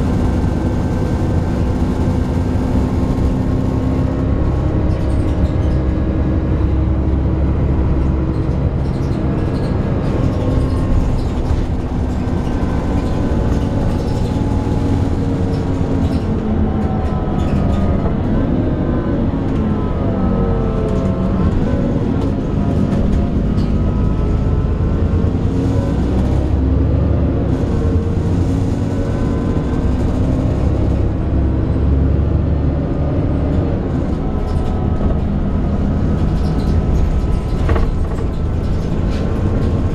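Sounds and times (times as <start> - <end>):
bus engine and drivetrain groaning: 0.0 - 39.9.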